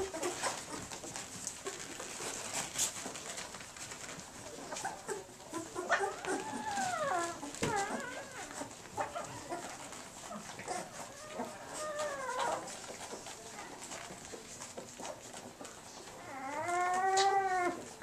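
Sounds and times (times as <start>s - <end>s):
puppies whining and squealing: 0.0s - 18.0s.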